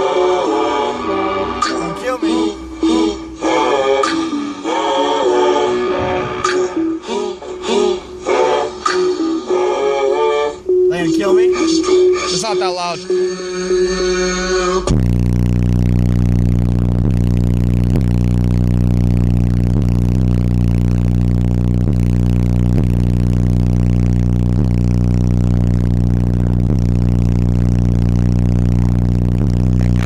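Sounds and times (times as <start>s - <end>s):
car subwoofer bass tone: 0.0s - 30.0s.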